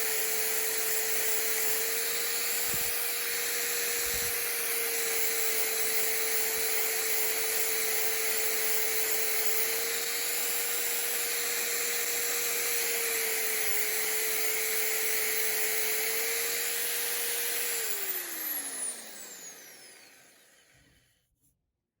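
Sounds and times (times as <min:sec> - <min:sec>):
motor spinning down: 0:00.0 - 0:20.9
power tool drilling tile: 0:00.0 - 0:21.0.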